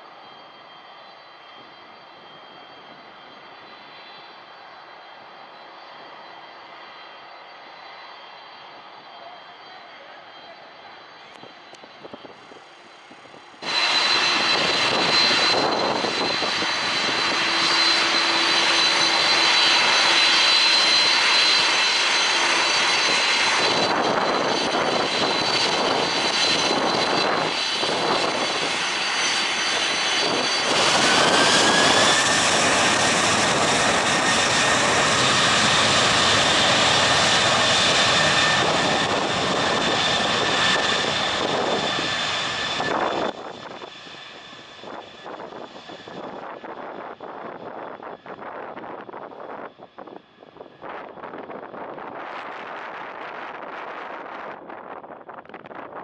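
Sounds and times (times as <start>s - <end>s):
jet engine roar: 0.0s - 56.0s
rising jet whine: 0.0s - 56.0s.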